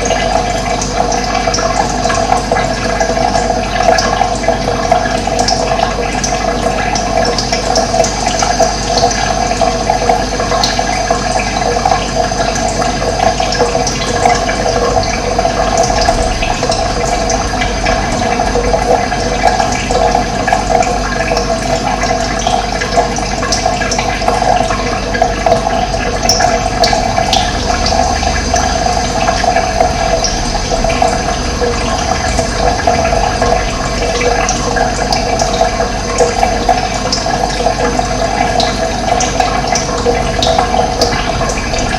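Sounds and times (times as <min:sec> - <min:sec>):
running water flowing: 0:00.0 - 0:41.9.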